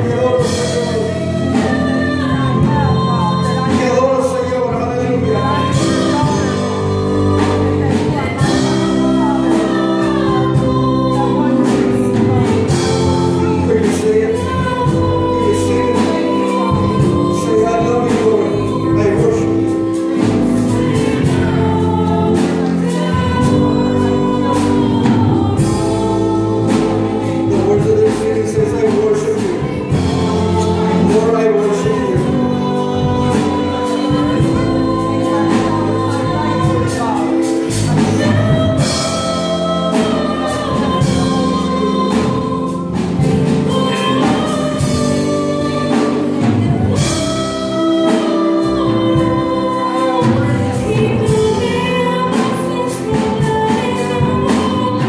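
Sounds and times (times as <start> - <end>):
keyboard: 0.0 - 55.0
person singing: 0.0 - 55.0.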